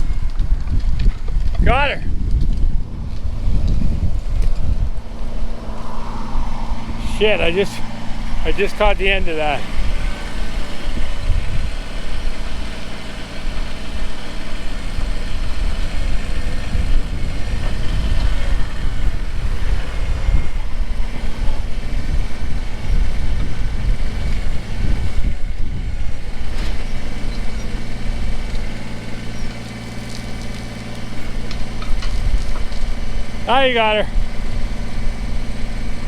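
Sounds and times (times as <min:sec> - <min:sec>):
wind buffeting microphone: 0:00.0 - 0:29.6, 0:31.0 - 0:36.0
backhoe working: 0:00.0 - 0:36.0
tractor diesel engine running: 0:00.0 - 0:36.0.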